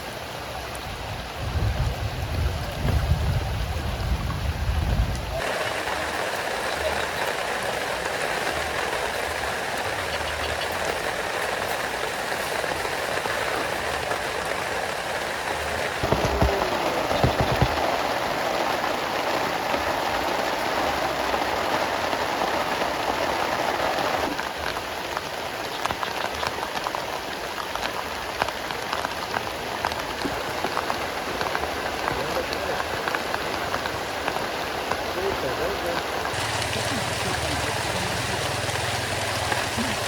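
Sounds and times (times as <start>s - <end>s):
heavy rain pattering: 0.0s - 40.0s.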